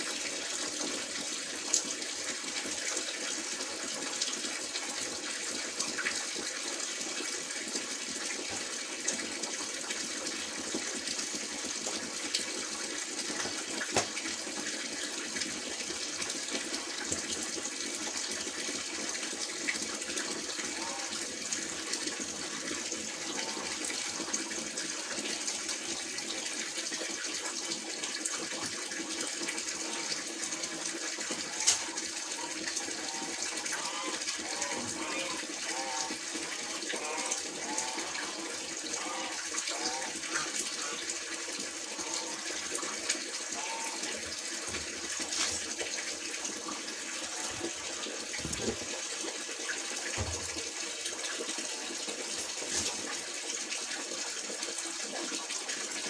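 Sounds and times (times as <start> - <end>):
tap water running: 0.0 - 56.0.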